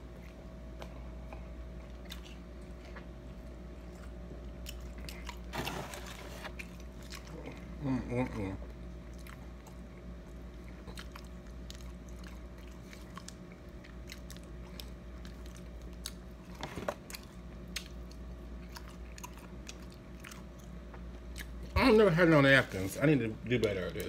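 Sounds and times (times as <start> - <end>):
chewing crispy food: 0.0 - 21.8
steady low hum: 0.0 - 24.0.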